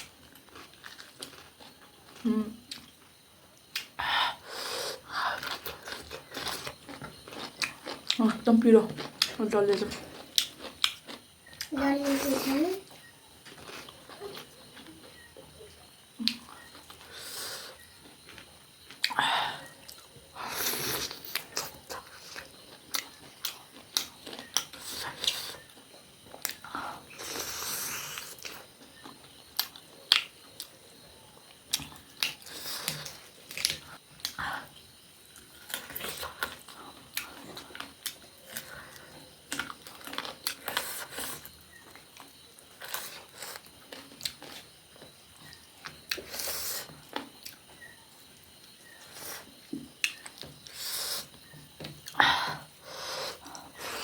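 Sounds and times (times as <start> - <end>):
chewing and crunching food: 0.0 - 4.0, 4.6 - 54.0.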